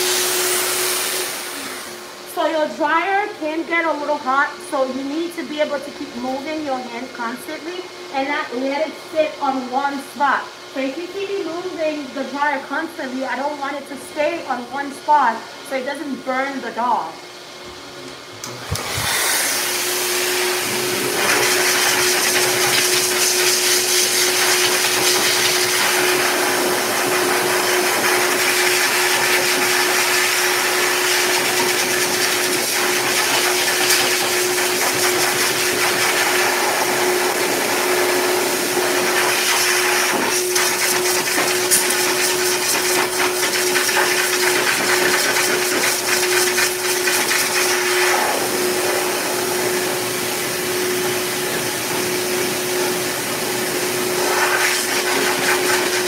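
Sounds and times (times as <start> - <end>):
dog dryer blowing air: 0.0 - 56.0.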